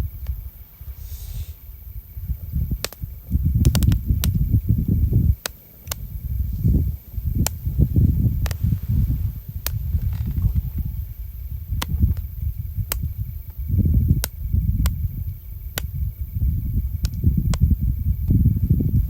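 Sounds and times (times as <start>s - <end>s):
burning wood popping: 0.0s - 19.0s
campfire crackling: 0.0s - 19.0s
low fire rumble: 0.0s - 19.0s.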